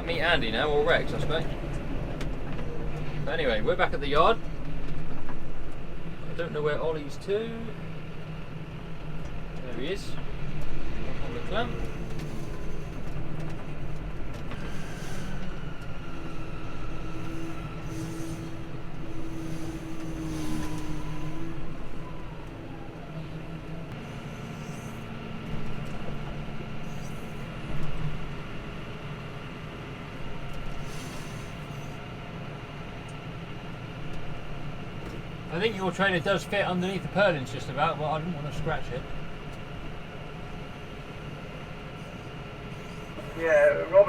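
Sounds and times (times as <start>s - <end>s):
steady whine: 0.0s - 44.0s
tractor engine running: 0.0s - 44.0s
trailer squeaks and rattles: 0.0s - 44.0s.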